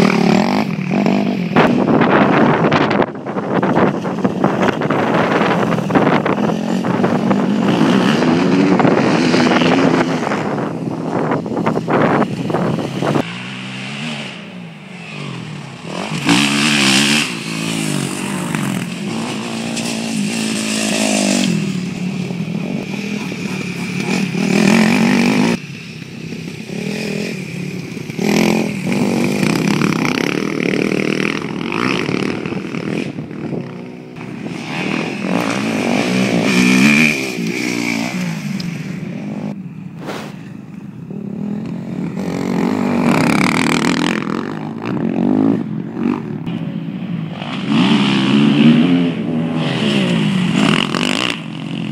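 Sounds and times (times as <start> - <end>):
dirt bike engine revving: 0.0 - 25.6, 26.3 - 39.6, 41.1 - 46.6, 47.3 - 51.9.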